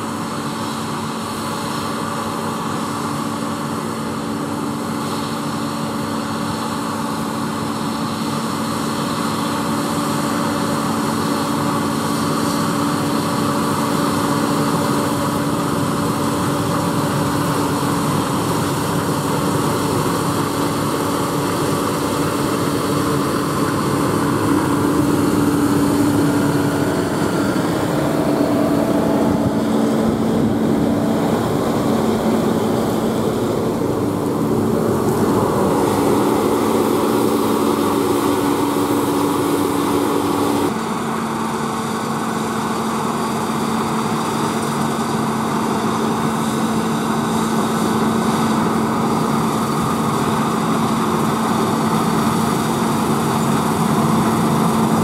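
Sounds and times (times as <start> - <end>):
combine harvester running: 0.0 - 55.0
tractor running: 0.0 - 55.0.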